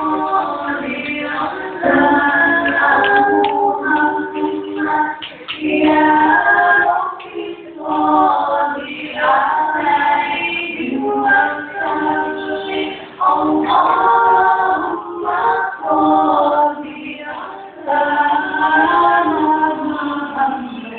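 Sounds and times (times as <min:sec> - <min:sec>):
choir singing a cappella: 0:00.0 - 0:20.9.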